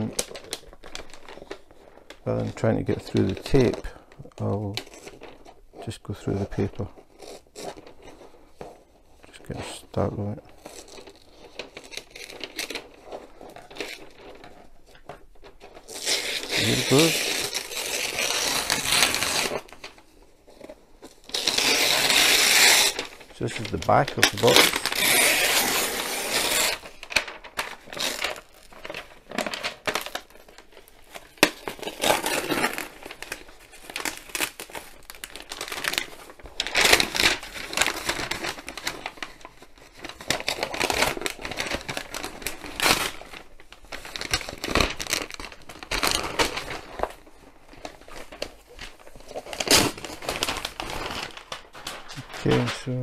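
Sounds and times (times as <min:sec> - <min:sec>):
paper tearing and crumpling: 0:00.0 - 0:05.6, 0:09.5 - 0:53.0.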